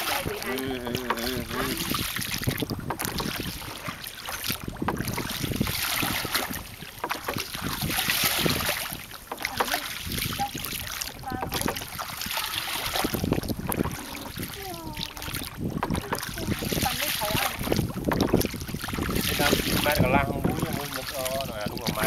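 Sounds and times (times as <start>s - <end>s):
water splashing against boat hull: 0.0s - 22.0s
wind buffeting microphone: 0.0s - 22.0s.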